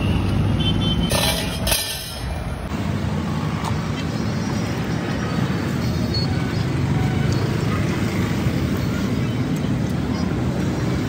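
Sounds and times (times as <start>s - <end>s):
passing vehicles rumbling: 0.0s - 11.0s.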